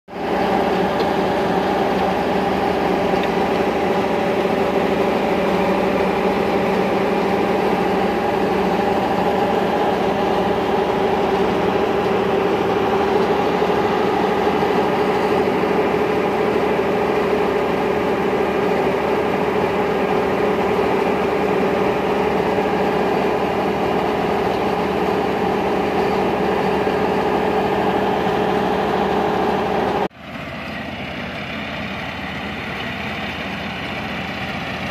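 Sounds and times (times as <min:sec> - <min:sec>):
combine harvester engine running: 0:00.1 - 0:34.9.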